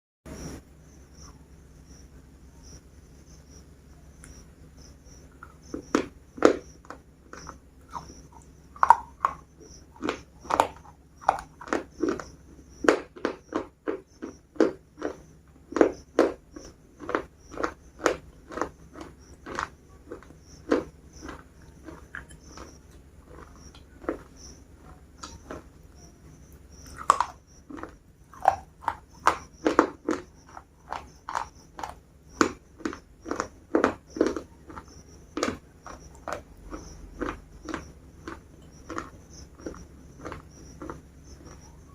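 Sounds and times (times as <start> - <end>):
biscuits being crunched and chewed: 5.4 - 41.8.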